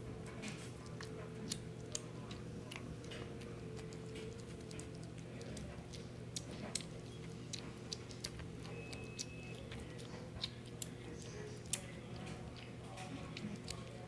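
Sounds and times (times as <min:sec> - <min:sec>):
kitten chewing food: 0:00.0 - 0:14.0.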